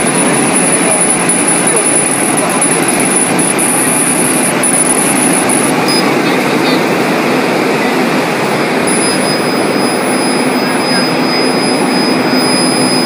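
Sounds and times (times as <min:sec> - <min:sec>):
fans and extraction rushing: 0:00.0 - 0:13.0
thin high whine: 0:00.0 - 0:13.0.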